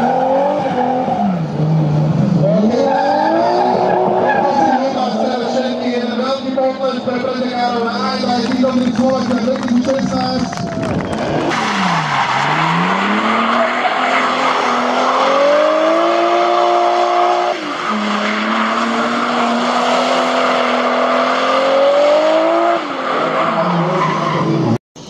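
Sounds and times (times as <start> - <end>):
car engine at high revs: 0.0 - 10.0, 11.0 - 24.8.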